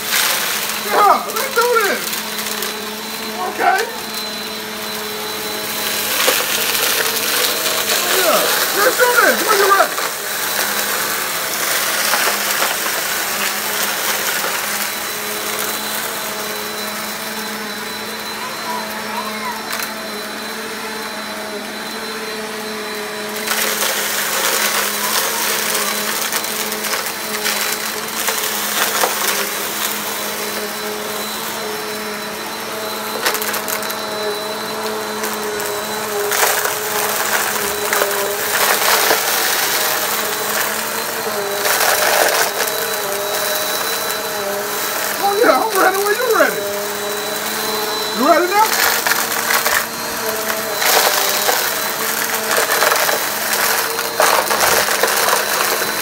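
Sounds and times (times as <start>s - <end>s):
debris rattling through vacuum: 0.0s - 16.8s, 23.1s - 32.1s, 32.9s - 56.0s
vacuum cleaner motor hum: 0.0s - 56.0s.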